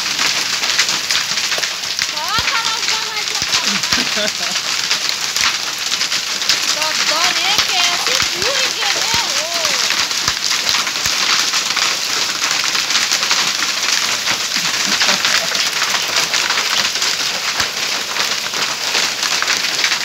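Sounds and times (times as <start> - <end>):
falling rain: 0.0 - 20.0
hail clattering on pavement: 0.0 - 20.0.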